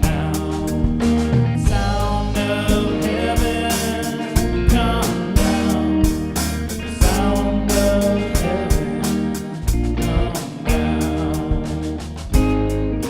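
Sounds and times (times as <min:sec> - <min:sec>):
worship band playing: 0:00.0 - 0:13.0.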